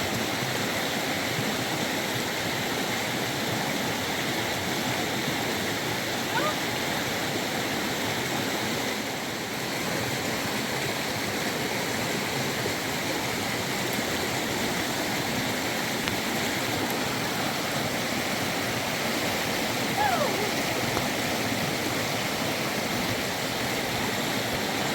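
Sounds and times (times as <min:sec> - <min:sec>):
river water rushing: 0:00.0 - 0:24.9.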